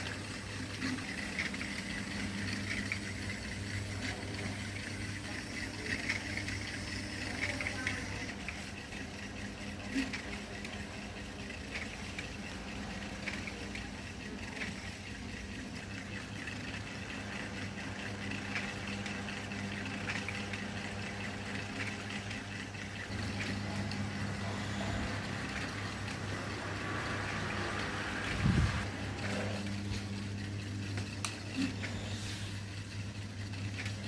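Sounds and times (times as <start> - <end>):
ceiling fan motor humming: 0.0 - 34.0.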